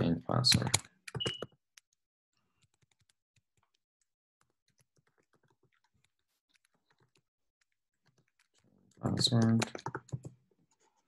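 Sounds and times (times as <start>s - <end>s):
faint keyboard typing: 0.0s - 11.0s.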